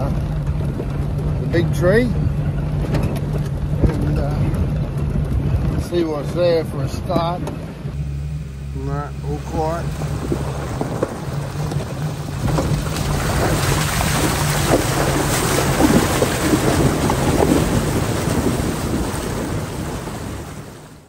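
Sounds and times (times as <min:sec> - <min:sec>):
low engine hum: 0:00.0 - 0:21.0
wheels splashing through water: 0:00.0 - 0:21.0.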